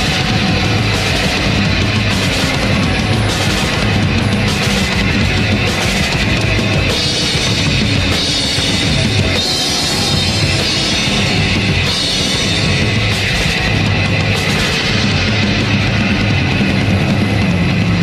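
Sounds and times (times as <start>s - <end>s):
distorted electric guitar: 0.0s - 18.0s
drum kit: 0.0s - 18.0s.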